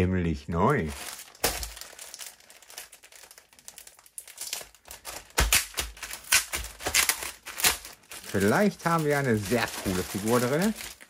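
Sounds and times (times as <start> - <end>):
packaging tearing and crinkling: 0.7 - 11.0.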